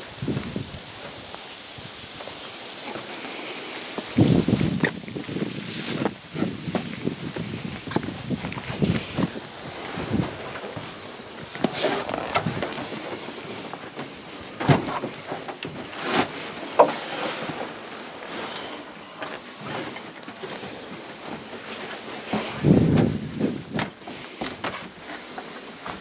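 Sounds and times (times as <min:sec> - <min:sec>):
clothing and gear rustling: 0:00.2 - 0:26.0.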